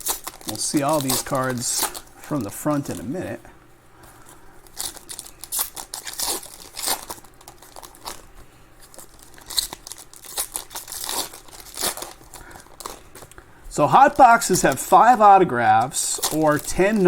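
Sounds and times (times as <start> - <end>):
card wrappers tearing and crinkling: 0.0 - 3.4, 4.6 - 17.0.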